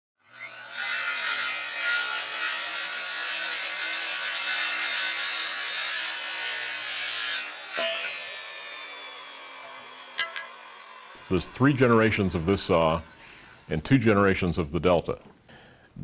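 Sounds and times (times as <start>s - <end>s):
saw cutting through wood: 0.2s - 14.6s.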